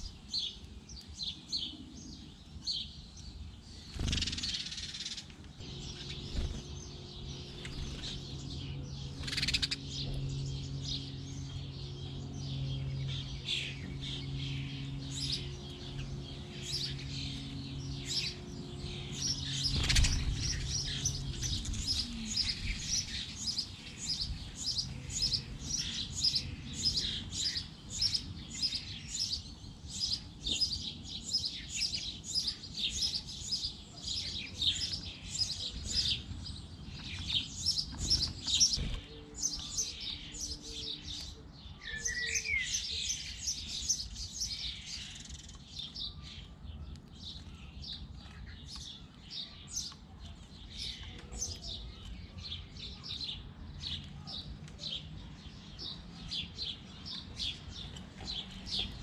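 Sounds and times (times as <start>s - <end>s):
low steady hum: 0.0s - 53.0s
sparrows chirping: 0.0s - 59.0s.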